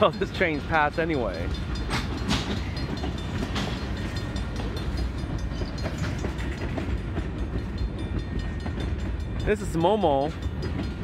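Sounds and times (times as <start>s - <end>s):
train cars rumbling past: 0.0s - 11.0s
wheels clicking over rails: 0.0s - 11.0s.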